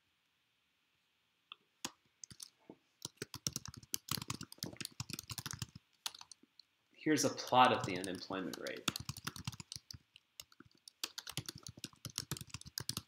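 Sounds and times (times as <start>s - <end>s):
keyboard typing: 1.8s - 6.5s, 7.2s - 13.0s.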